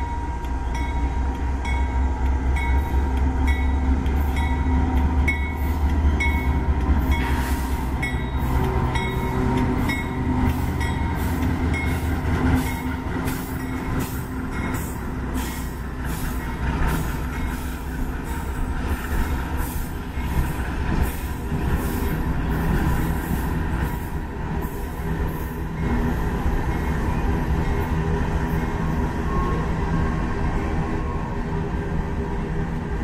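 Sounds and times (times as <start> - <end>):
train wheels clacking: 0.0 - 29.6
diesel locomotives running: 0.0 - 33.0
rail cars rolling rumble: 0.0 - 33.0.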